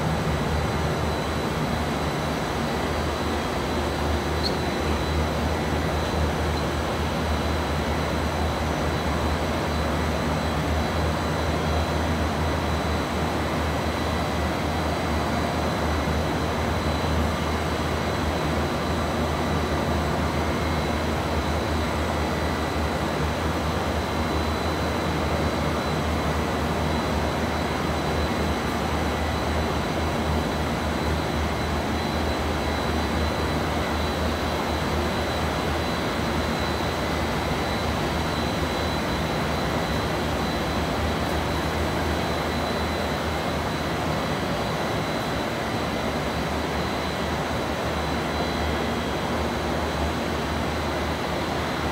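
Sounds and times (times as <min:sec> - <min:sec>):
high machine whine: 0:00.0 - 0:51.9
industrial machine hum: 0:00.0 - 0:51.9.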